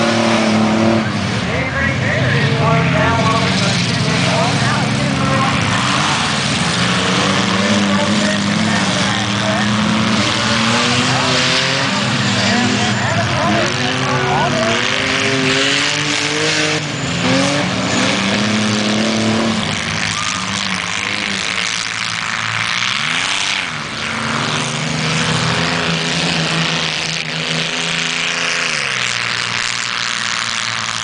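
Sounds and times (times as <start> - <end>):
racing engines revving: 0.0 - 31.0.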